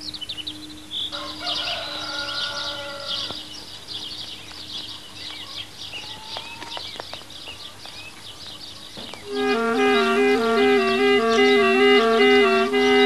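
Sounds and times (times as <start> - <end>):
farmyard fowl chattering chorus: 1.0 - 13.0.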